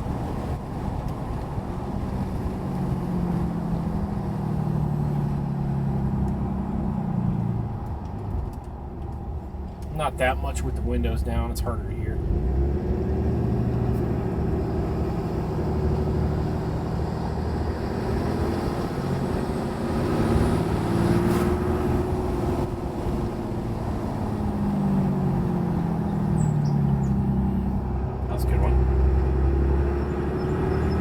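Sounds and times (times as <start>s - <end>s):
diesel truck engine driving: 0.0s - 31.0s.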